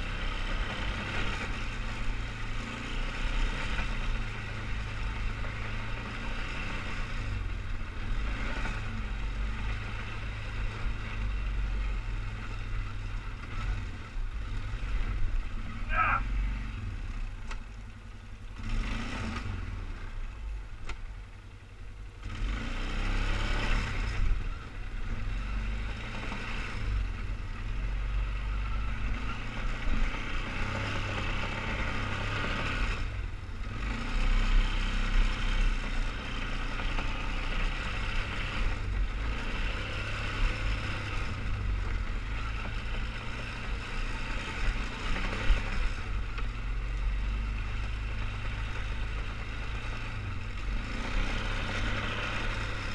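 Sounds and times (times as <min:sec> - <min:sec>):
atv engine revving: 0:00.0 - 0:21.1, 0:22.2 - 0:52.9.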